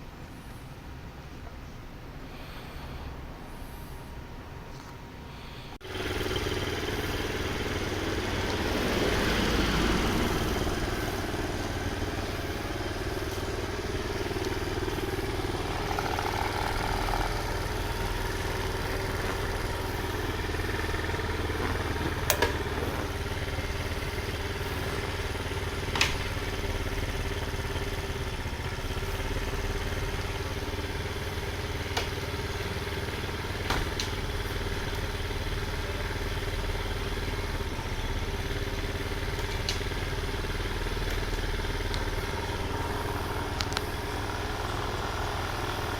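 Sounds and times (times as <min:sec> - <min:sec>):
car engine idling with whine: 0:00.0 - 0:45.9.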